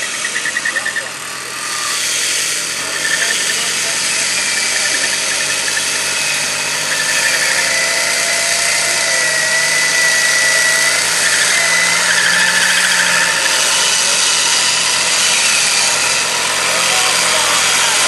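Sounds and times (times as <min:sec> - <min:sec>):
vehicle engine running: 0:00.0 - 0:18.0
winch whining: 0:00.0 - 0:18.0.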